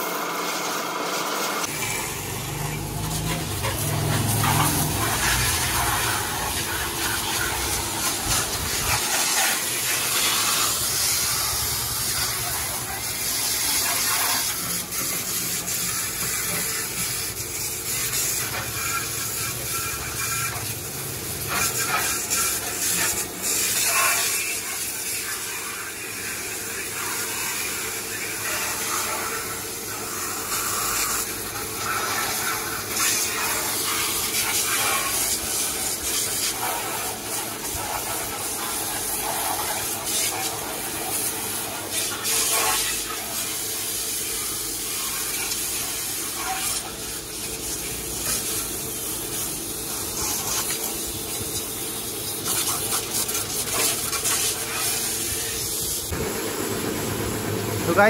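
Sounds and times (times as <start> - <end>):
pressure washer spraying water: 0.0 - 58.0.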